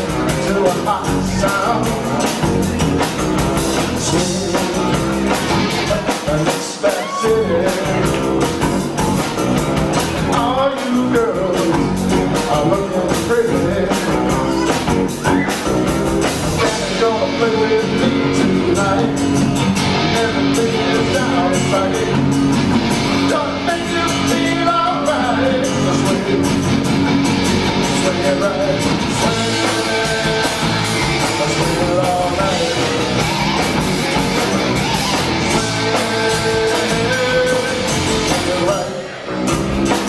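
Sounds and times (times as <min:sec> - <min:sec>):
acoustic and electric guitars: 0:00.0 - 0:40.0
bass guitar: 0:00.0 - 0:40.0
drums and cymbals: 0:00.0 - 0:40.0
man singing lead vocal: 0:00.0 - 0:40.0.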